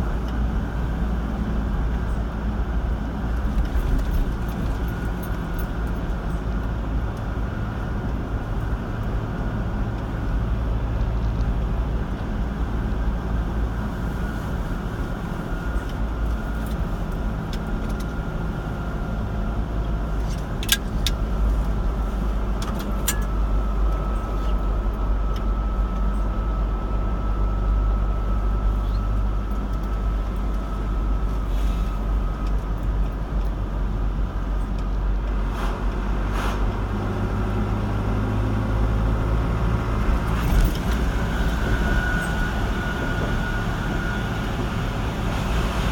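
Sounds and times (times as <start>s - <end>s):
car engine and tyre noise: 0.0s - 45.9s.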